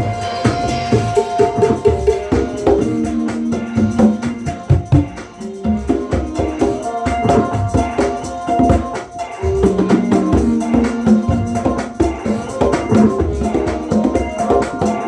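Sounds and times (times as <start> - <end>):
shaken hand percussion: 0.0 - 15.0.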